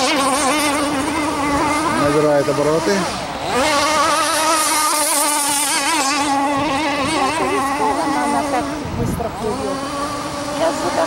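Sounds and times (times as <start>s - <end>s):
model speedboat motor whining: 0.0s - 11.0s.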